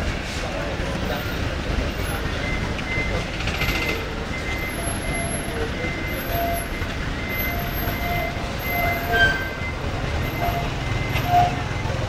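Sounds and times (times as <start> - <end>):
rumble of passing traffic: 0.0 - 12.0.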